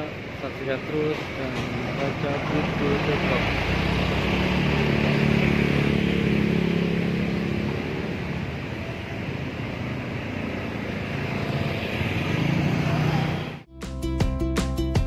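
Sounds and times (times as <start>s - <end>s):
street noise: 0.0s - 13.7s
scooter engine hum: 1.6s - 13.7s.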